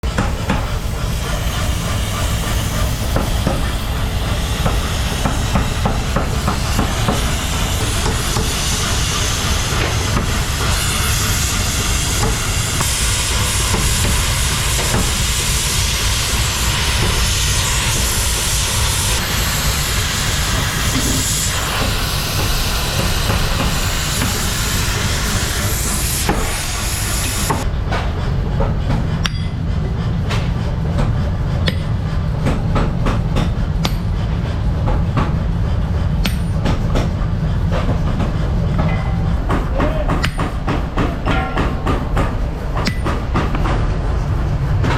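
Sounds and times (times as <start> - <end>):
workshop machinery rumble: 0.0 - 44.9.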